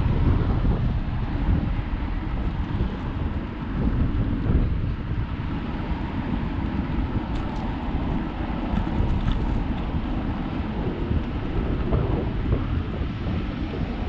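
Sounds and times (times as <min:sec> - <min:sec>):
bicycle tyres on pavement: 0:00.0 - 0:13.9
wind buffeting microphone: 0:00.0 - 0:14.0.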